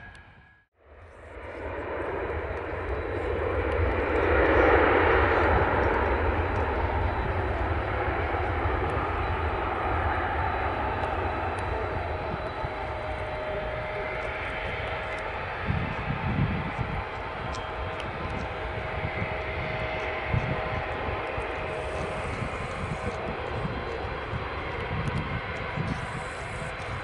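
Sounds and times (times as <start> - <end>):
jet engines rumbling with whine: 0.0 - 27.0.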